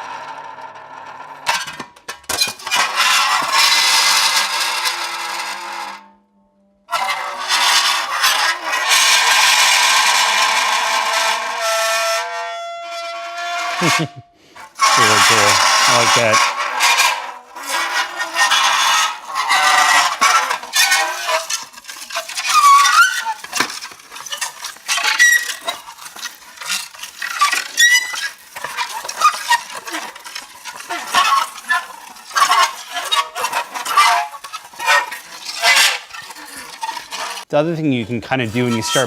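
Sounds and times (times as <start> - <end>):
metal squealing on dry ice: 0.0 - 6.0, 6.9 - 37.5, 38.3 - 39.0.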